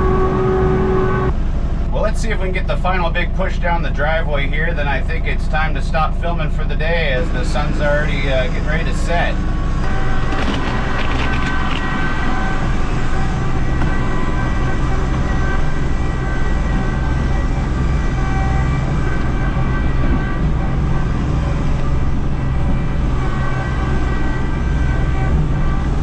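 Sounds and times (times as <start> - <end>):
steady whine: 0.0 - 26.0
tractor diesel engine under load: 0.0 - 26.0.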